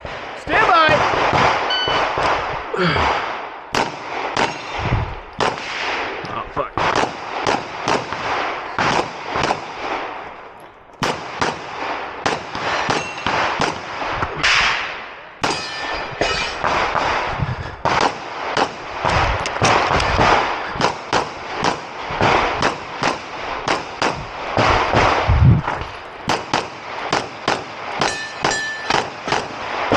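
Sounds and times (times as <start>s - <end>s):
pistol shots with echo: 0.0s - 25.3s, 26.2s - 29.9s.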